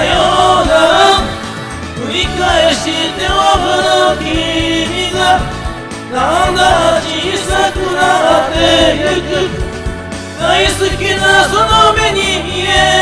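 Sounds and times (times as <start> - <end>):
group singing into microphones: 0.0 - 13.0
karaoke backing track: 0.0 - 13.0.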